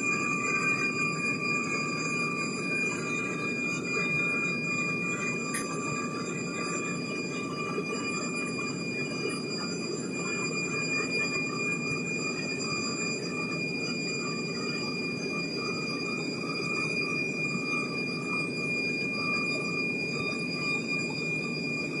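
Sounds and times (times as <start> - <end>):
jet engines roaring in cabin: 0.0 - 22.0.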